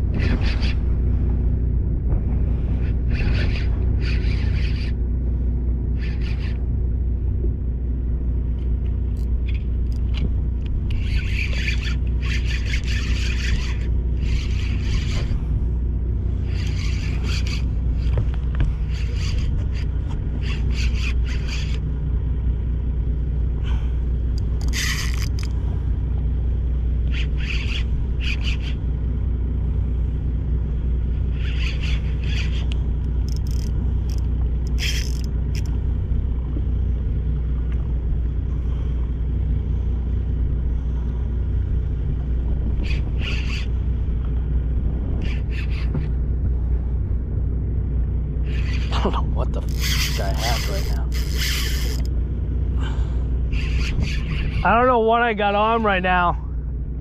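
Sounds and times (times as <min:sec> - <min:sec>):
boat engine rumbling: 0:00.0 - 0:57.0.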